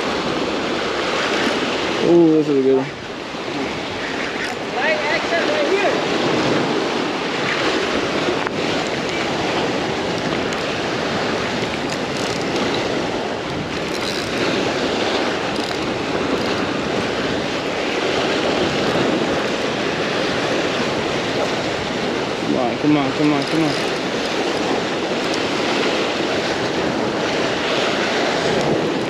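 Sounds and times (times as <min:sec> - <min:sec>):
surf breaking over rocks: 0:00.0 - 0:29.0
wind buffeting microphone: 0:00.0 - 0:29.0.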